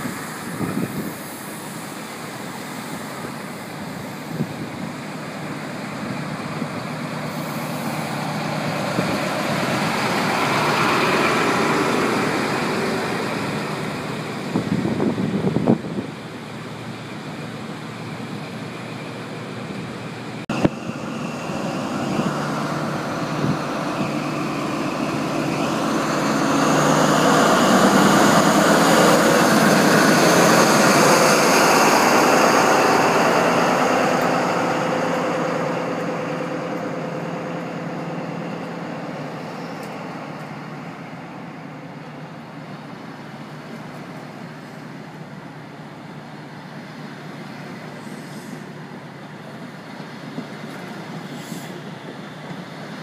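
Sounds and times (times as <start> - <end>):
diesel train rumble: 0.0 - 53.0.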